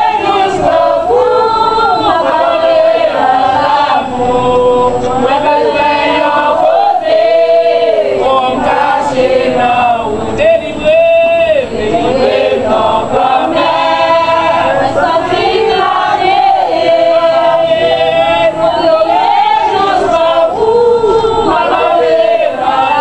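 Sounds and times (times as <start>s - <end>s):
congregation singing a chant: 0.0s - 23.0s.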